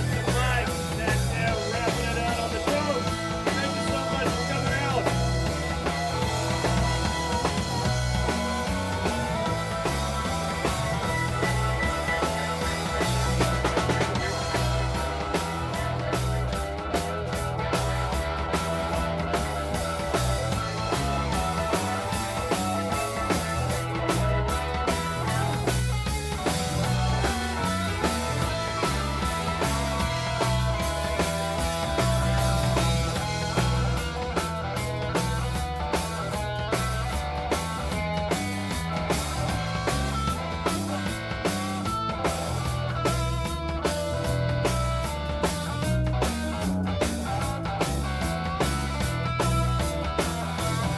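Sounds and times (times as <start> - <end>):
bass: 0.0 - 50.9
drum kit: 0.0 - 50.9
electric guitar: 0.0 - 50.9
keyboard: 0.0 - 50.9.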